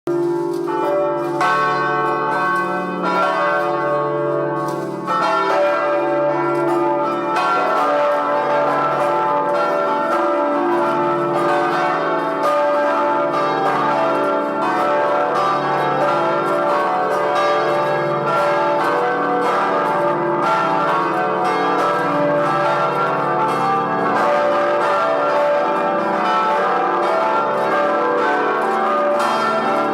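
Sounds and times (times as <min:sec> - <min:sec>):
large church bells ringing: 0:00.1 - 0:29.9.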